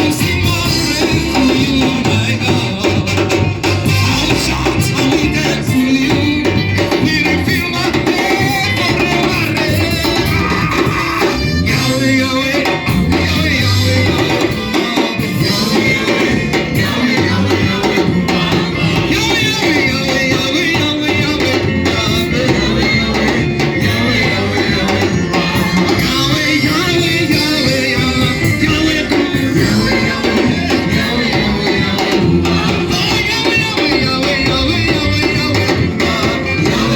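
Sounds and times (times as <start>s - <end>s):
band playing worship music: 0.0s - 36.9s
voices singing: 0.0s - 36.9s.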